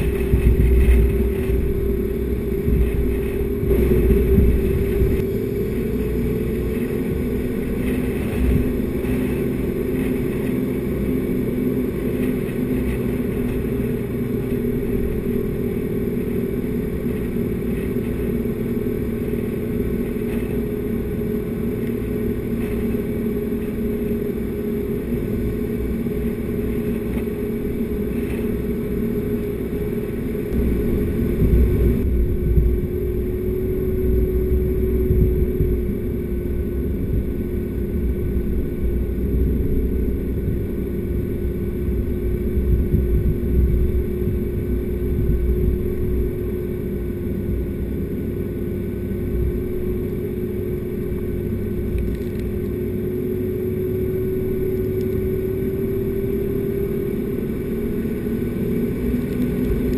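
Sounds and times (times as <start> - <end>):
low rumble: 0.0 - 59.9
vehicle engine drone: 0.0 - 59.9.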